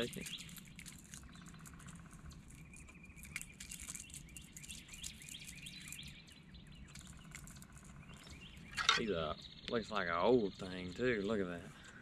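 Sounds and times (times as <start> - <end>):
faint clicking and pattering: 0.0 - 9.9, 10.6 - 12.0
small birds chirping: 0.0 - 12.0.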